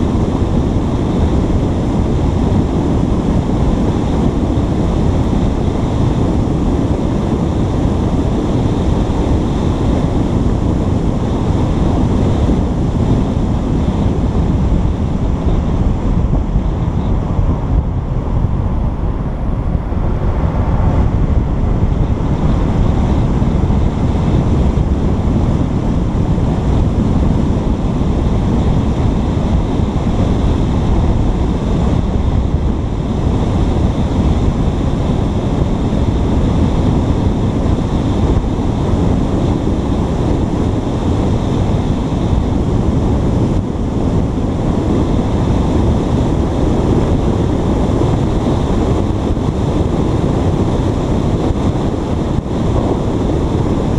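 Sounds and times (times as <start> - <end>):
wind rumble on microphone: 0.0 - 53.9.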